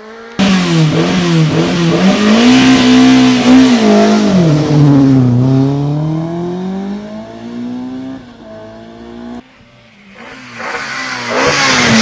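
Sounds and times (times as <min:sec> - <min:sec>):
rally car engine revving: 0:00.0 - 0:09.4, 0:10.0 - 0:12.0.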